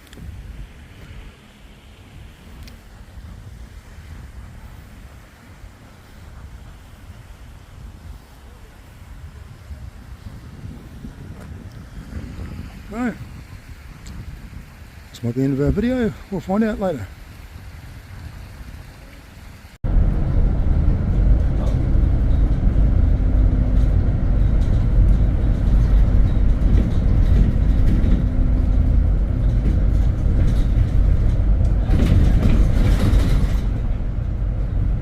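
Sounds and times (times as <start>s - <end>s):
vehicle engine and road rumble: 0.0s - 35.0s.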